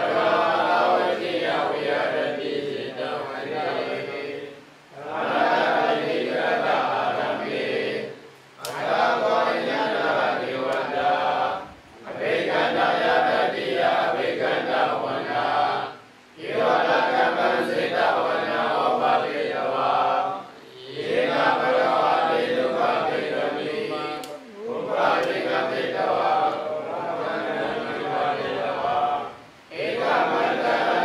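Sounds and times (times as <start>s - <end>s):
monks chanting in unison: 0.0s - 31.0s.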